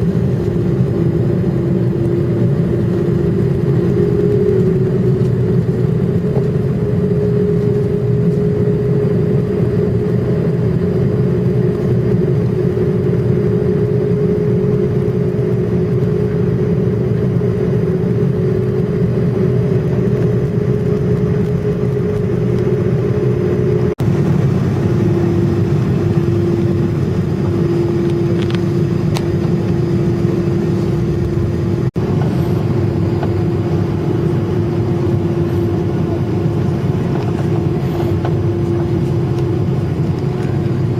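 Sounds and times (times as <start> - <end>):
airliner cabin noise drone: 0.0 - 40.9
constant hum tone: 0.0 - 40.9.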